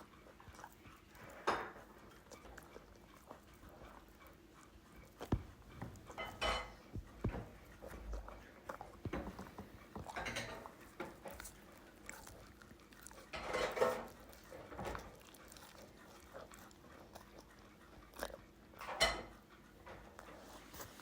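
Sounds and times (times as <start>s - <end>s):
dog chewing sweet potato: 0.0s - 21.0s.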